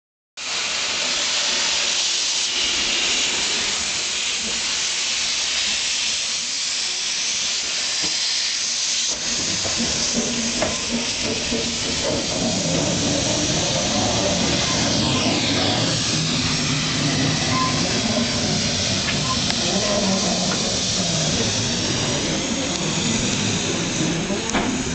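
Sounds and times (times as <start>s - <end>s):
steam locomotive hissing: 0.4s - 24.9s.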